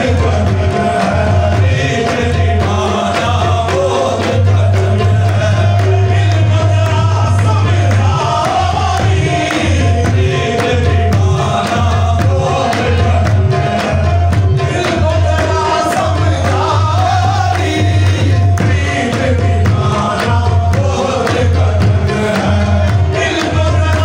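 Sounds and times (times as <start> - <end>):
percussion strokes: 0.0 - 24.0.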